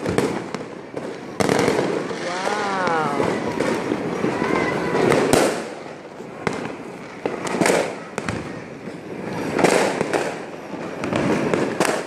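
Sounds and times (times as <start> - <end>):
firework bangs: 0.0 - 12.0
firework crackling hiss: 0.0 - 12.0.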